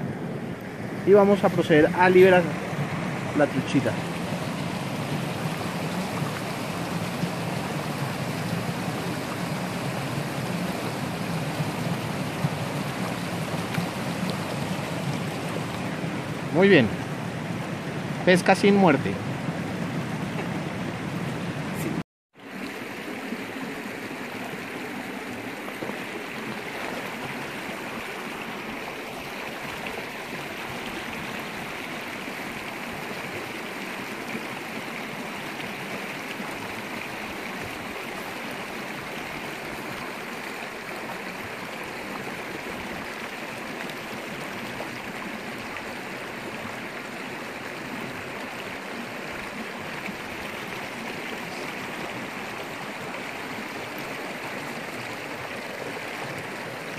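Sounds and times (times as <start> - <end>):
stream running over stones: 0.0 - 56.9.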